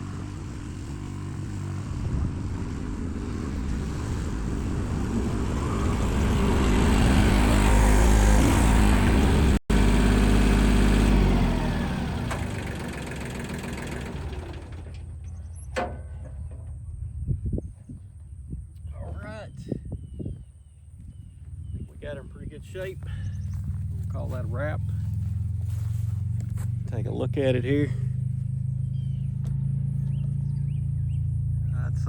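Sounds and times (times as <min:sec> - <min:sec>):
earthmoving machine engine: 0:00.0 - 0:17.7, 0:21.4 - 0:32.0.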